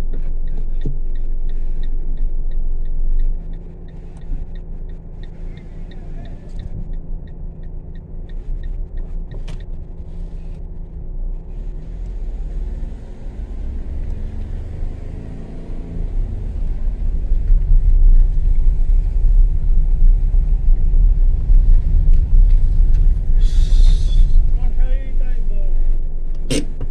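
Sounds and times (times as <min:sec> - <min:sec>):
car engine and tyres rumbling: 0:00.0 - 0:26.9.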